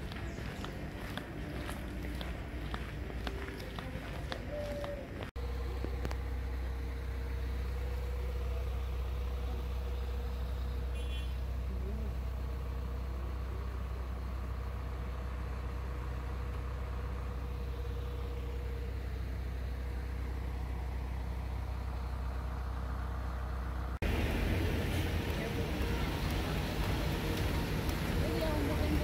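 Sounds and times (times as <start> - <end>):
vehicle engine droning: 0.0 - 29.0.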